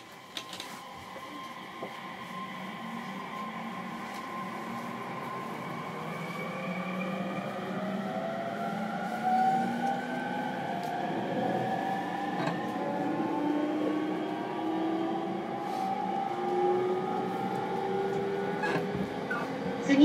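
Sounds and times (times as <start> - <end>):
train motor whine rising: 0.0 - 20.0
wheels rumbling on rail: 0.0 - 20.0.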